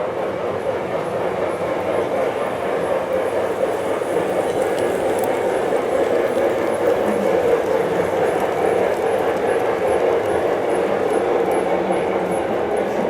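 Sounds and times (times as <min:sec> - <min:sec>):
model train running on track: 0:00.0 - 0:13.0
faint regular track clicks: 0:00.9 - 0:12.6.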